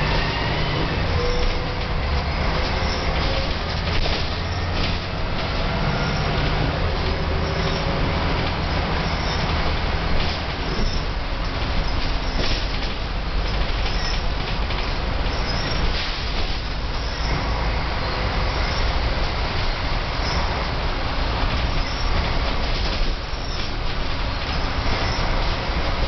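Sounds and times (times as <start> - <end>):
bus body noise: 0.0 - 26.0
bus engine drone: 0.0 - 26.0.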